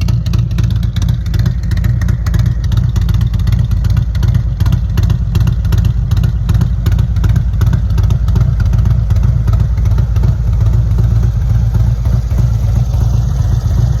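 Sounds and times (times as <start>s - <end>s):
motorcycle engine pulsing exhaust: 0.0s - 14.0s.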